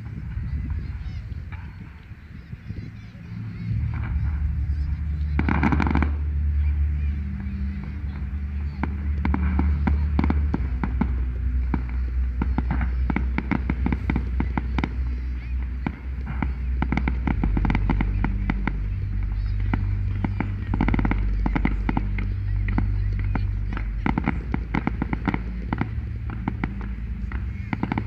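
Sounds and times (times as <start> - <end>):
low rumble: 0.0 - 28.0
fireworks bangs and crackles: 2.9 - 6.4, 7.8 - 22.9, 23.7 - 28.0.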